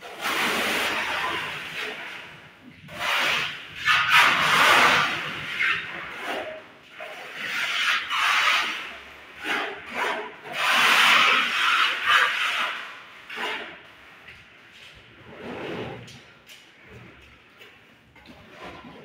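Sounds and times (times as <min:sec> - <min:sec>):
trowel scraping mortar on wall: 0:00.0 - 0:19.0.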